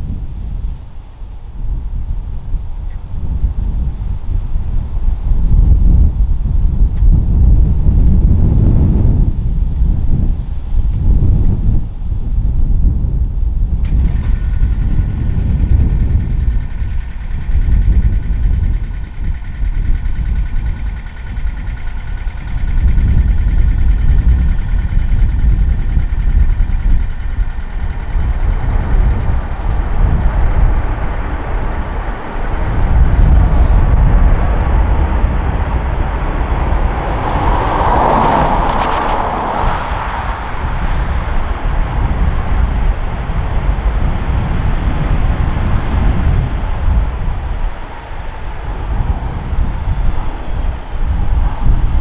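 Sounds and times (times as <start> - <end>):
jet engine noise: 0.0 - 52.0
low rumble of plane on runway: 0.0 - 52.0.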